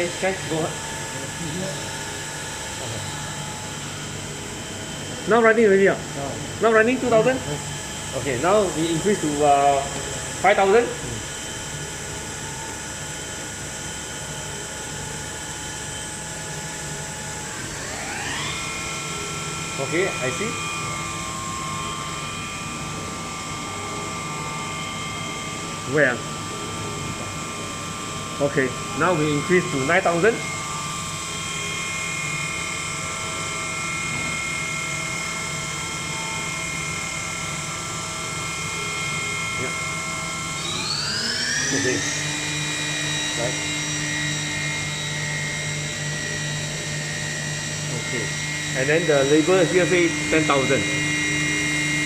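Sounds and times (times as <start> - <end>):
high whining spindle tones: 0.0 - 52.0
machine spindle hum: 0.0 - 52.0.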